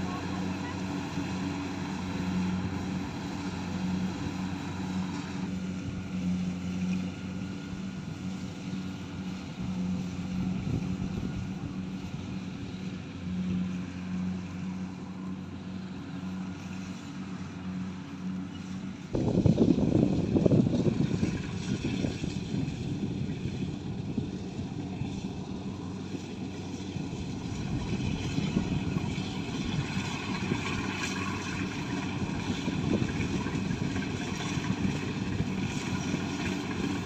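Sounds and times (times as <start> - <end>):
combine harvester engine drone: 0.0 - 37.0.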